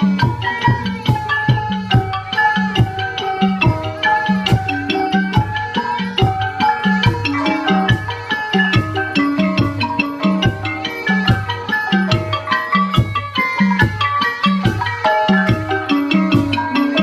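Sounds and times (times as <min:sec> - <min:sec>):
pitched percussion and wind melody: 0:00.0 - 0:17.0.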